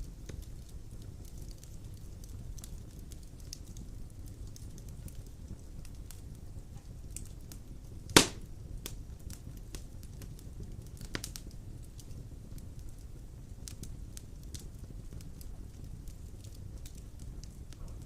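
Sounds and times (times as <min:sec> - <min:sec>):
burning log popping: 0:00.0 - 0:18.0
fire crackling: 0:00.0 - 0:18.0
fire flames rumbling: 0:00.0 - 0:18.0.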